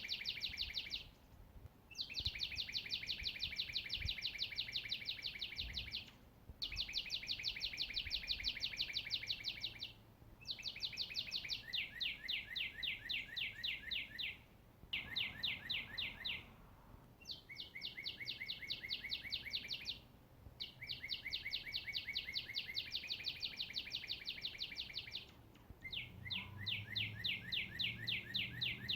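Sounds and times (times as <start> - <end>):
songbird trilling: 0.0 - 1.1, 1.9 - 16.5, 17.2 - 28.9.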